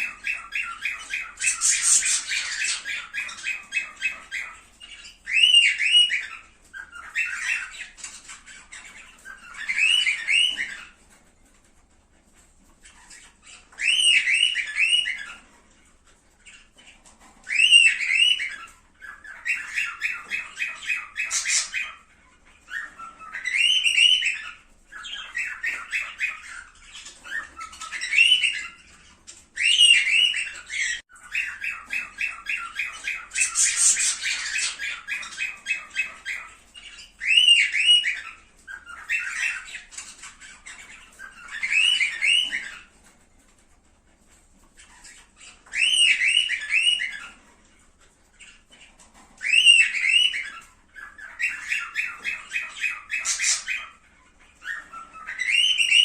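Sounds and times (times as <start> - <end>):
cockatiels chirping: 0.0 - 56.0.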